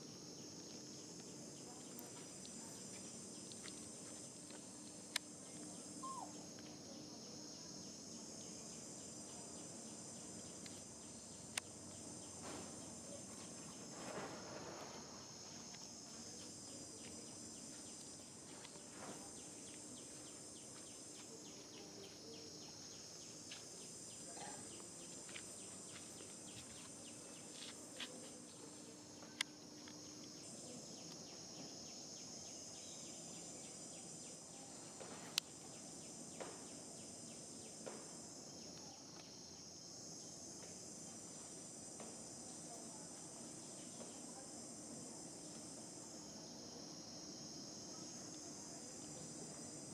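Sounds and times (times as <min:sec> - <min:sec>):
insects buzzing: 0:00.0 - 0:49.9.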